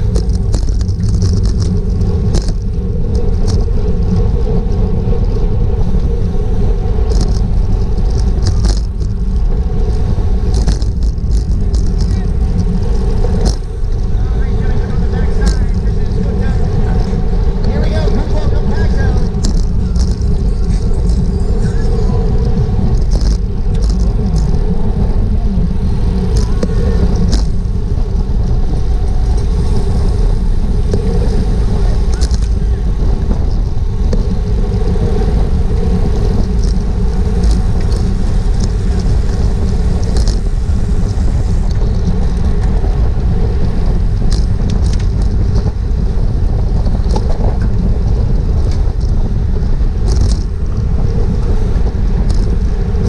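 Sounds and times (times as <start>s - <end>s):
bicycle tyre and road noise: 0.0s - 53.0s
wind rushing over microphone: 0.0s - 53.0s.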